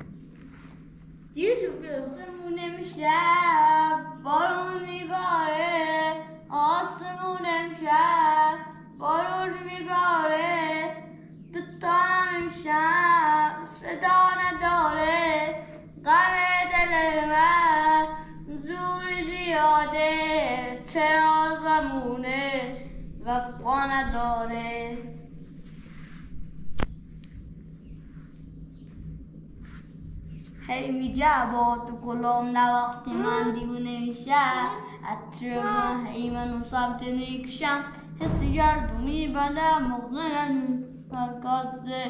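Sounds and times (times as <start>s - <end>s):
boy singing unaccompanied: 1.4s - 25.1s, 30.7s - 42.0s.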